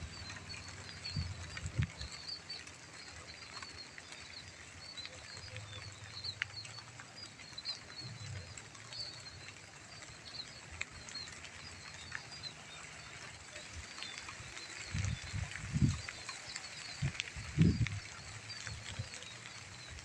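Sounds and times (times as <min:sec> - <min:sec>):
rain drop ticks: 0:00.0 - 0:20.0.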